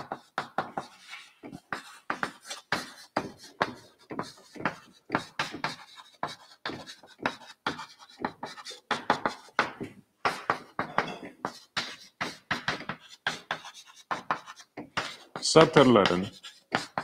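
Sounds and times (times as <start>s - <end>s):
chalk tapping and scratching: 0.0s - 17.0s.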